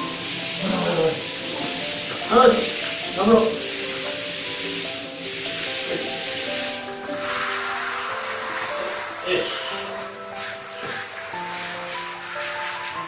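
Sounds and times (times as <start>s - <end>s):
background music: 0.0s - 13.0s
shower water spraying on tiles: 0.0s - 13.0s.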